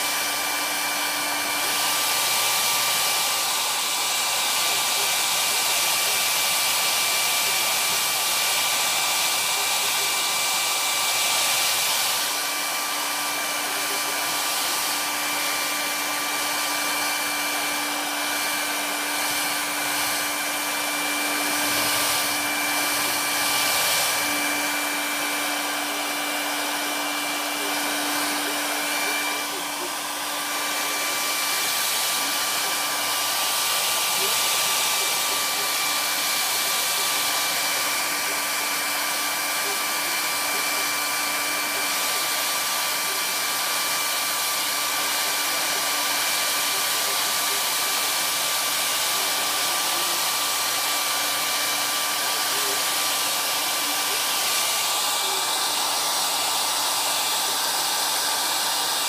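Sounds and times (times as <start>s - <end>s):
hair dryer air rushing: 0.0s - 59.0s
hair dryer motor whine: 0.0s - 59.0s.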